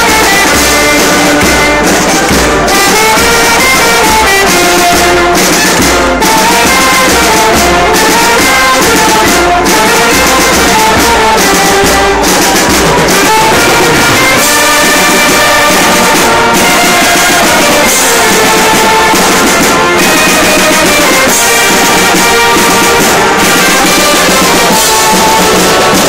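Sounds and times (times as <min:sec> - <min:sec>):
brass band playing lively tune: 0:00.0 - 0:26.0.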